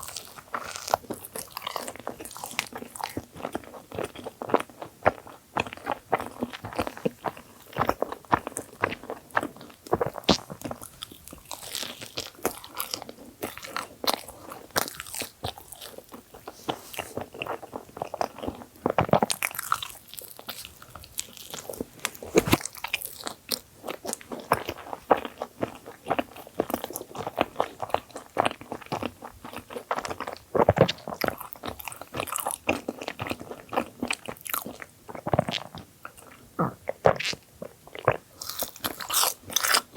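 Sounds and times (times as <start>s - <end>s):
crunchy biting and chewing: 0.0s - 39.9s.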